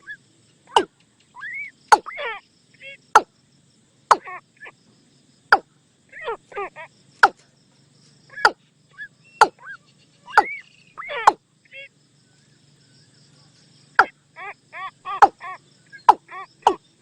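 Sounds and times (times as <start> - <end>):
faint insect-like hiss: 0.0 - 17.0.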